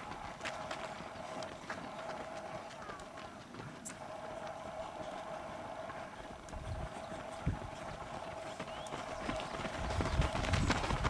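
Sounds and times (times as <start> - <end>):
faint steady hum: 0.0 - 10.5.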